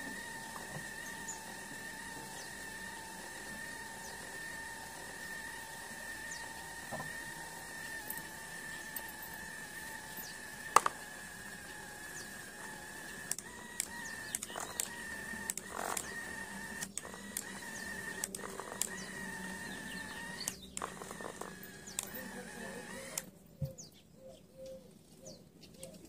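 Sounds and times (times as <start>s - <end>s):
toy tractor motor whining: 0.0s - 23.9s.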